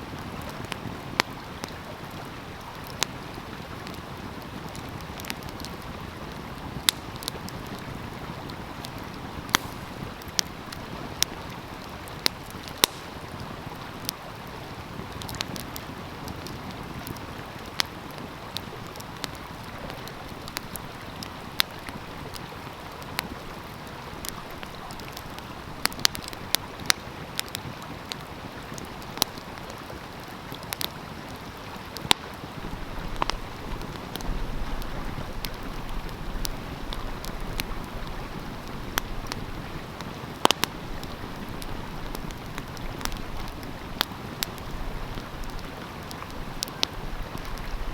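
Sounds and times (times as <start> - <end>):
stream rushing: 0.0 - 47.9
wood fire crackling and popping: 0.0 - 47.9.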